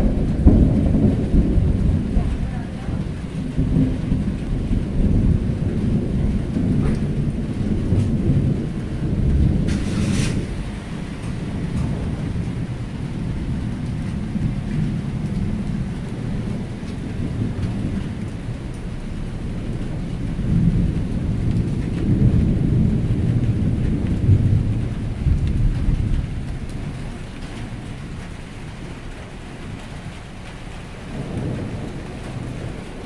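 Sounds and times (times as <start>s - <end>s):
falling rain: 0.0s - 33.0s
thunder rumbling: 0.0s - 33.0s.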